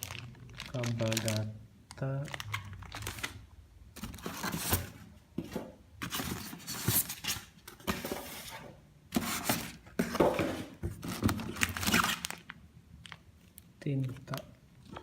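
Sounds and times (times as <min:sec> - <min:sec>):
plastic packaging rustling: 0:00.0 - 0:13.5.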